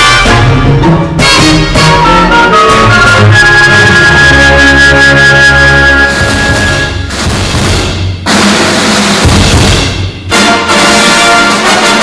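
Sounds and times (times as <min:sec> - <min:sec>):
background music with drums: 0:00.0 - 0:12.0.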